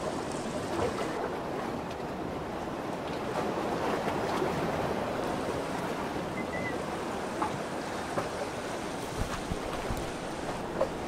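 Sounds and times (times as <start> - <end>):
waves washing in: 0.0 - 11.0.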